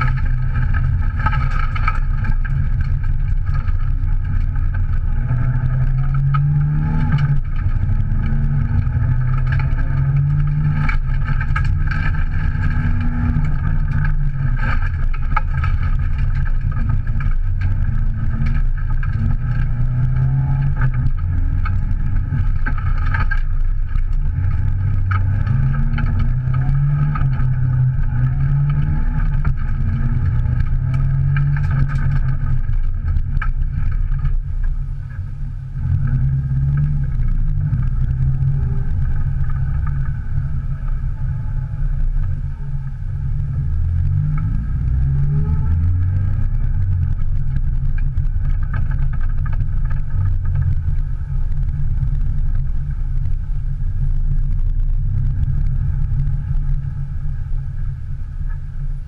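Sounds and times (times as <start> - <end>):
gravel striking car underside: 0.0 - 58.6
car engine revving: 0.0 - 59.0.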